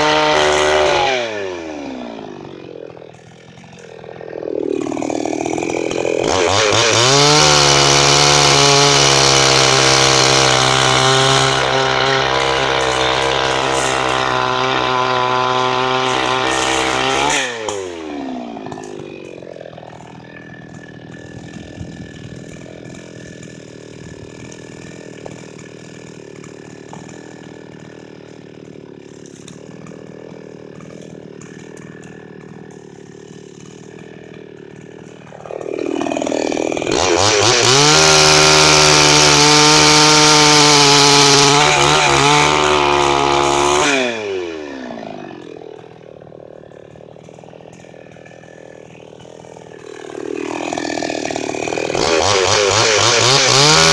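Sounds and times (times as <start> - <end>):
chainsaw idling and revving: 0.0 - 53.9.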